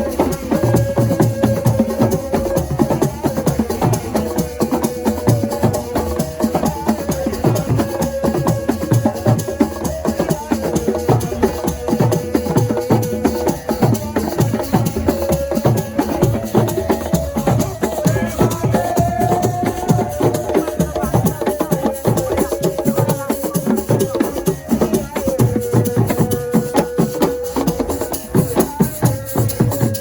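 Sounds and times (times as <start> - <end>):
fast percussion drumming: 0.0 - 30.0.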